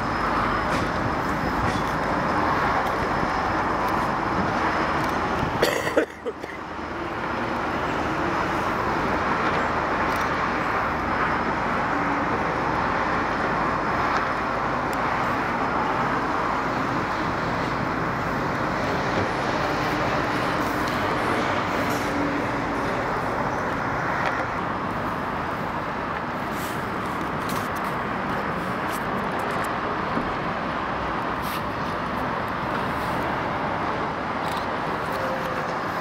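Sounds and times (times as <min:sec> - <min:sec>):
train rumbling over tracks: 0:00.0 - 0:36.0.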